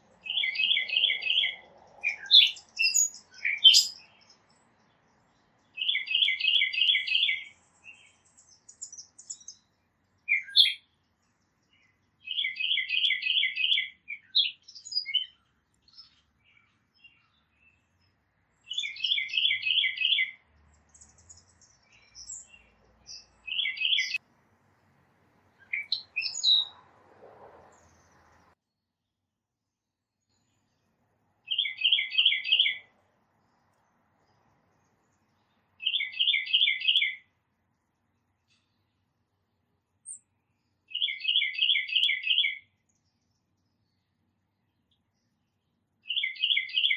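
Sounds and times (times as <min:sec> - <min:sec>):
small birds chirping: 0:00.0 - 0:24.2, 0:25.4 - 0:26.9, 0:27.6 - 0:28.6, 0:30.2 - 0:46.9
songbird singing: 0:00.0 - 0:24.2, 0:25.4 - 0:27.0, 0:27.6 - 0:28.6, 0:30.2 - 0:46.9.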